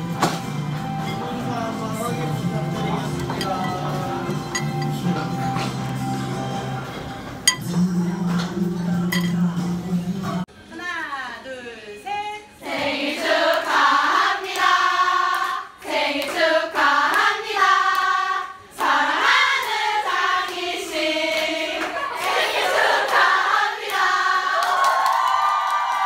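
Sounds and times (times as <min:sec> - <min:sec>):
group singing without instruments: 0:01.0 - 0:10.5, 0:12.6 - 0:24.6.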